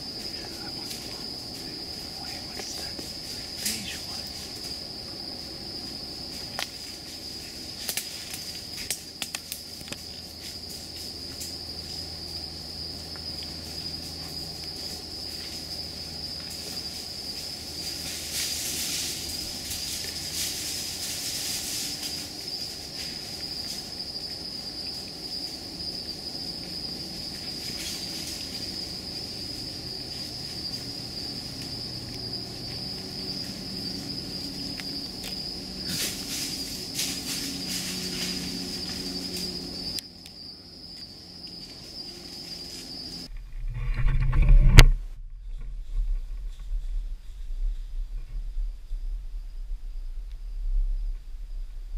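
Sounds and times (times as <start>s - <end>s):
leaves and brush rustling: 0.0s - 44.7s
insects trilling: 0.0s - 44.8s, 45.4s - 51.9s.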